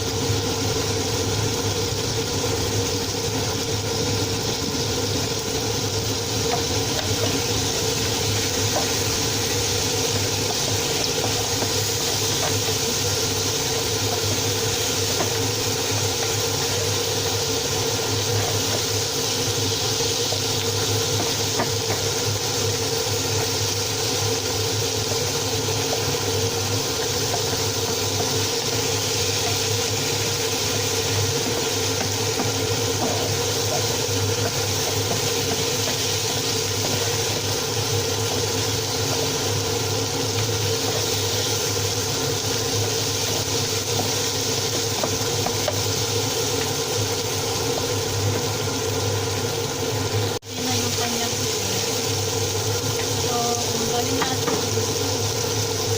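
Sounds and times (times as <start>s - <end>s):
kitchen appliance humming: 0.0s - 55.9s
pot cooking with hiss and pops: 0.0s - 55.9s.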